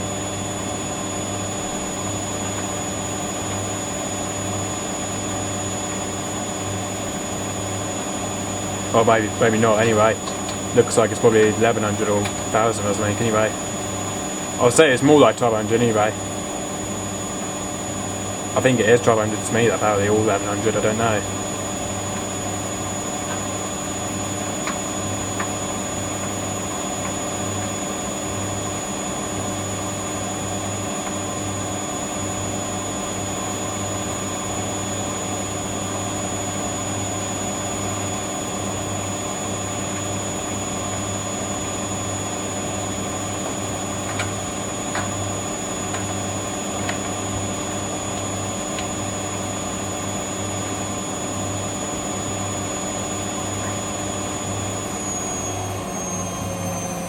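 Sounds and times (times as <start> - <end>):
high whine: 0.0 - 57.0
washing machine spinning: 0.0 - 57.0.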